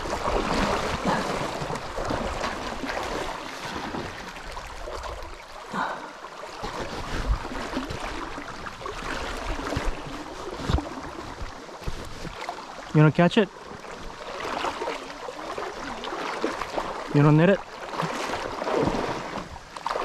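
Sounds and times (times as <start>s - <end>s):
river current rippling: 0.0s - 20.0s.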